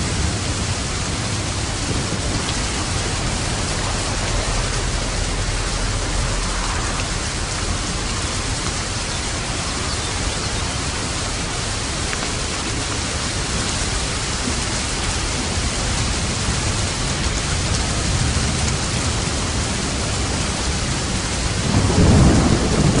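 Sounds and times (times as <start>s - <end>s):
heavy rain falling: 0.0s - 23.0s
thunder rumbling: 0.0s - 23.0s.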